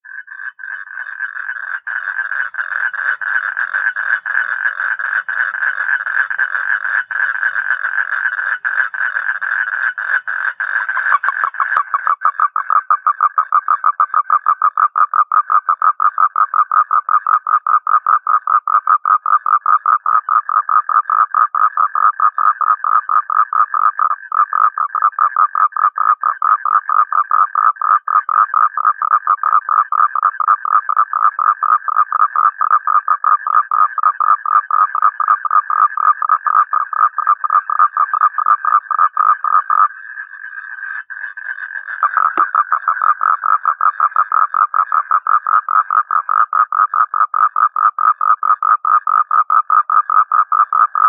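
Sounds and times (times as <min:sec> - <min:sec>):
toads trilling: 0:00.0 - 0:51.0.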